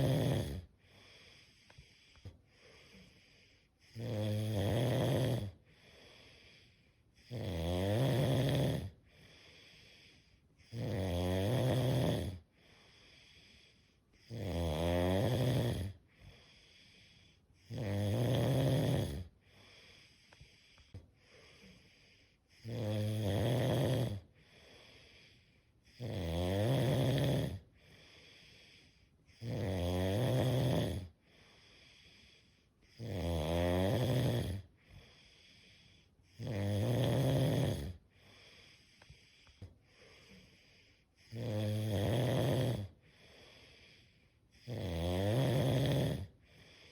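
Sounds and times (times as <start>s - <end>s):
loud snoring: 0.0s - 46.9s.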